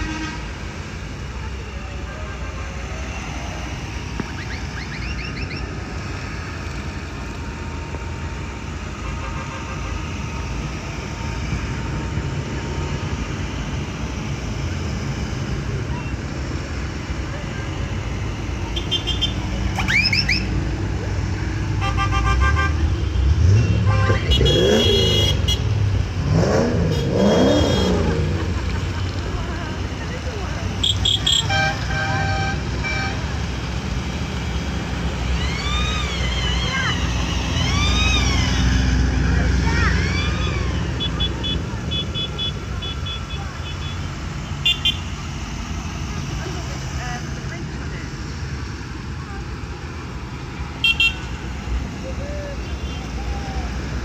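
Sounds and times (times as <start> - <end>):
horns tooting: 0.0 - 6.3, 8.6 - 10.8, 15.8 - 47.5, 50.7 - 54.0
tractor engines running: 0.0 - 54.0.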